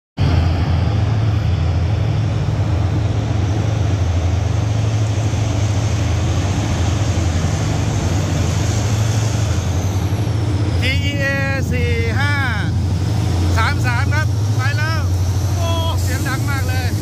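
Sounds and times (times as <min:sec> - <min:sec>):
low engine drone: 0:00.2 - 0:17.0
road traffic noise: 0:00.2 - 0:17.0.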